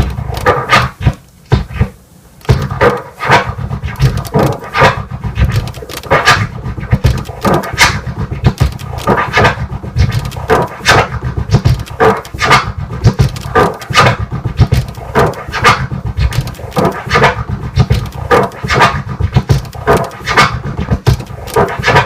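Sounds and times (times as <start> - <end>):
turntable scratching drum sample: 0.0 - 22.0.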